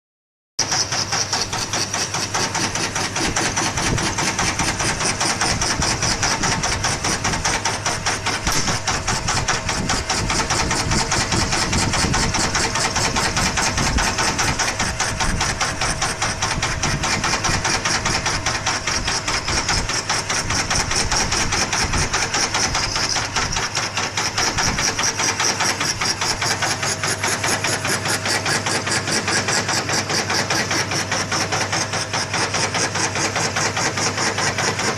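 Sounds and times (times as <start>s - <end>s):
scroll saw blade rattling: 0.6s - 33.1s
motor hum: 0.6s - 33.8s.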